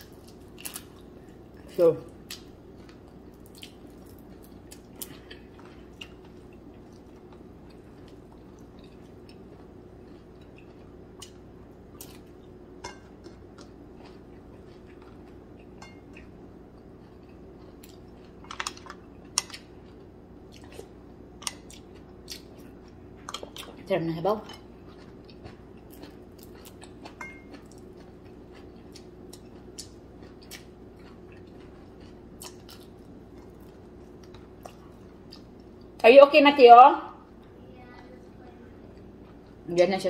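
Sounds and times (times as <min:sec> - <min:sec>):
chewing: 0:02.2 - 0:12.5, 0:13.2 - 0:23.8, 0:24.5 - 0:36.0.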